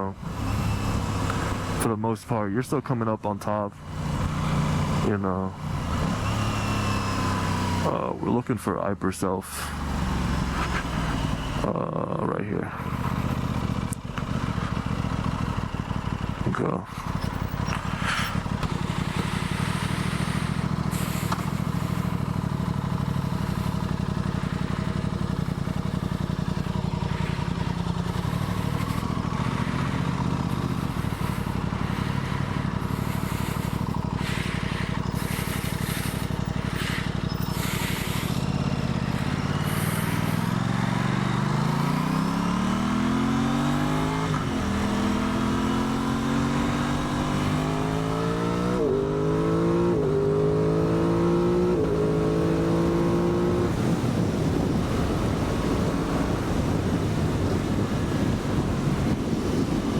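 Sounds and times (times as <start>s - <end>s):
motorcycle engine revving: 0.0s - 1.9s, 3.7s - 8.2s, 9.5s - 59.9s.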